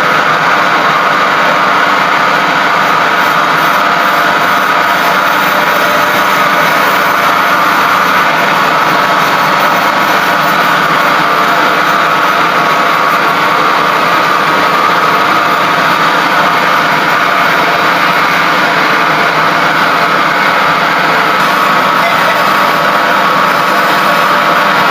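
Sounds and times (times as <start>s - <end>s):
machine humming with whine: 0.0s - 24.9s.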